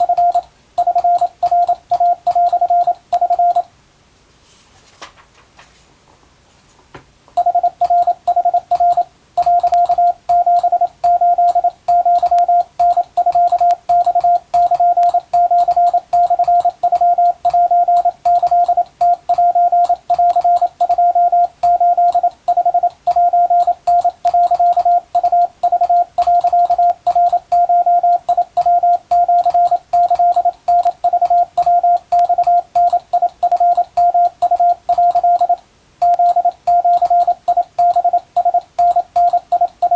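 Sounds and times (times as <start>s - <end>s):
morse code beeps: 0.0s - 3.7s, 7.4s - 39.9s.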